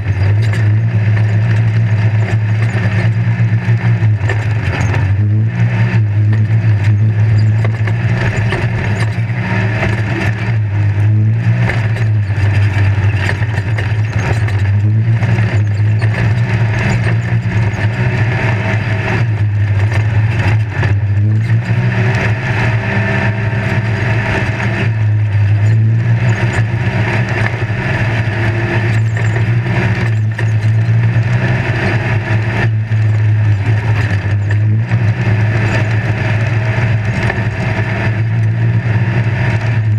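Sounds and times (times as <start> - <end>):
cab rattle: 0.0 - 22.3, 23.1 - 39.9
off-road engine running hard: 0.0 - 39.9.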